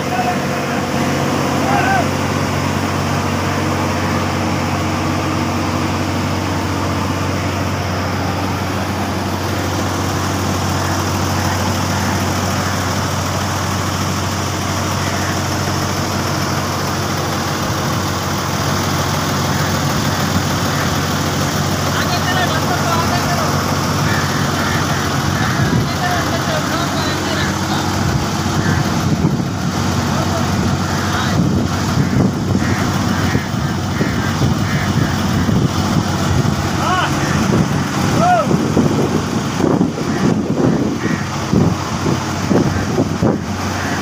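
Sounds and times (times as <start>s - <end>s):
heavy diesel engines droning: 0.0s - 44.0s.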